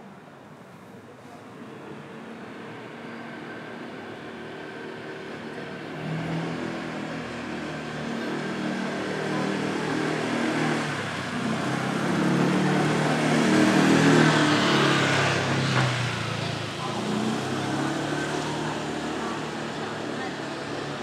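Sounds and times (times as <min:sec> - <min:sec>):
vehicle approaching: 0:01.6 - 0:21.0.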